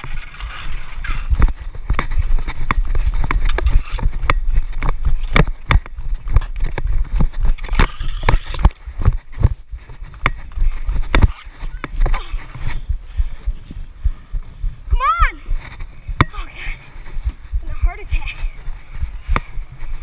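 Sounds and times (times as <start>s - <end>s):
microphone handling noise: 0.0s - 17.8s.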